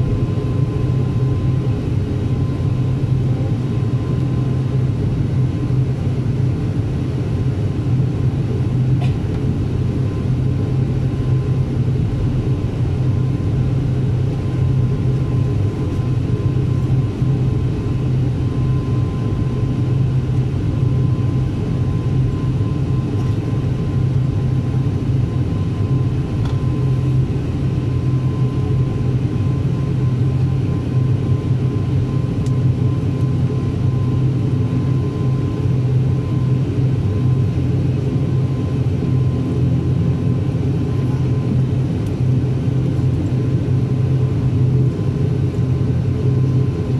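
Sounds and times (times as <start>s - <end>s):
turboprop engine drone: 0.0s - 46.9s.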